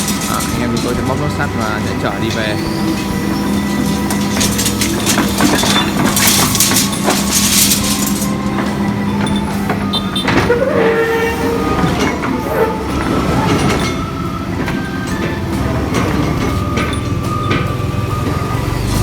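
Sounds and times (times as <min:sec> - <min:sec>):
excavator engine drone: 0:00.0 - 0:19.0
metal squealing and clanking: 0:00.0 - 0:19.0.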